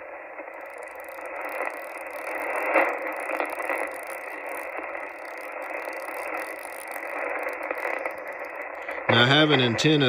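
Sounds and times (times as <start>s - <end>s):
radio static hiss: 0.0s - 10.0s
static crackle: 0.0s - 10.0s.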